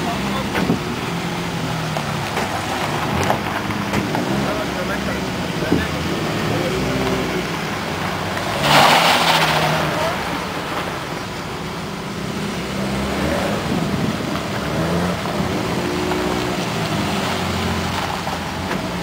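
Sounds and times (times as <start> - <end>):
car engines idling on gravel: 0.0 - 19.0
loud rush of noise: 0.0 - 19.0.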